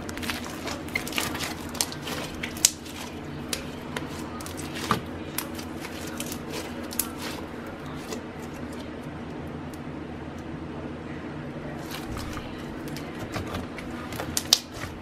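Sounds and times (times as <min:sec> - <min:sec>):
slime squishing and crackling: 0:00.0 - 0:09.0, 0:11.8 - 0:15.0
steady low hum: 0:00.0 - 0:15.0.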